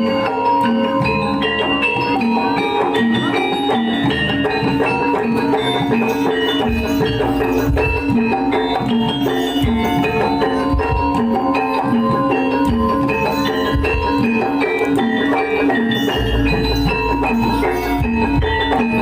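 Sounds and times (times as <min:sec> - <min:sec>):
gong-chimes and metallophones: 0:00.0 - 0:19.0
hand drums beating: 0:00.0 - 0:19.0.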